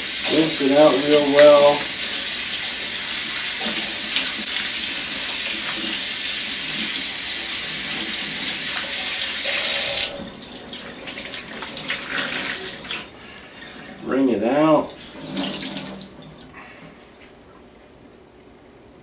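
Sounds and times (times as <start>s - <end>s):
faucet running into sink: 0.0s - 16.5s.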